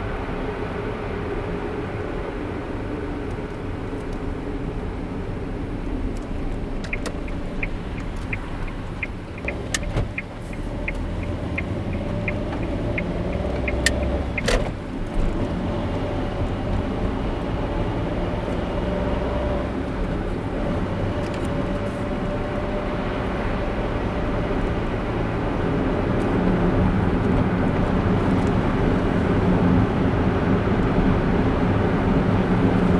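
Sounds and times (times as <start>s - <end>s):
car engine and road rumble: 0.0s - 32.9s
turn signal ticking: 5.8s - 32.9s.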